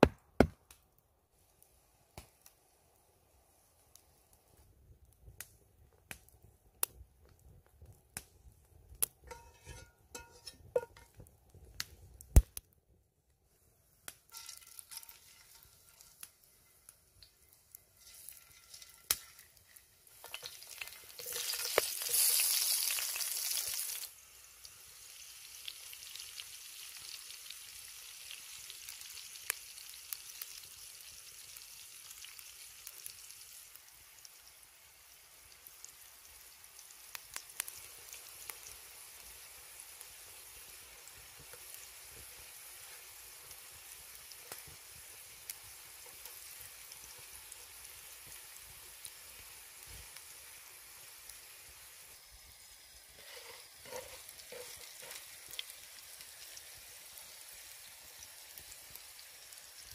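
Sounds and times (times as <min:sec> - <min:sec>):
potatoes sizzling in skillet: 0:09.0 - 0:11.3, 0:14.1 - 0:59.9.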